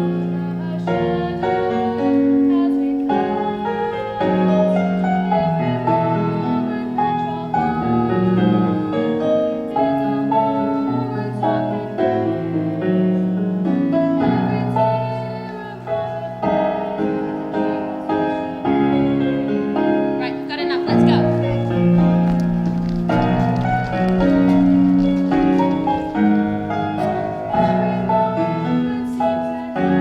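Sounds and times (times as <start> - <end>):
piano ballad accompaniment: 0.0 - 30.0.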